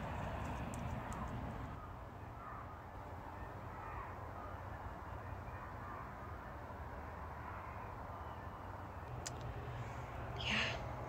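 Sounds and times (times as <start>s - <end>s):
faint birds calling: 0.0s - 11.0s.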